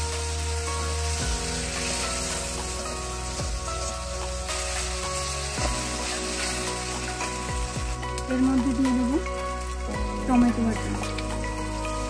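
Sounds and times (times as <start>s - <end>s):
background music: 0.0s - 12.0s
masala sizzling in oil: 0.0s - 12.0s.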